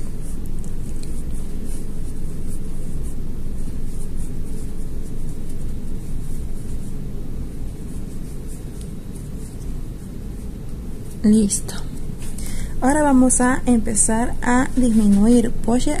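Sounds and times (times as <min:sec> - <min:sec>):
low background rumble: 0:00.0 - 0:16.0
yarn rustling through stitches: 0:00.0 - 0:16.0.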